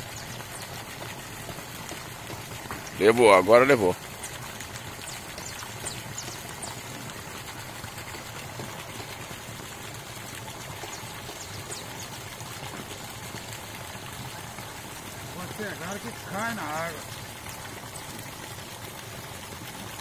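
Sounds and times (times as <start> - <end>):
running water pouring and trickling: 0.0 - 20.0.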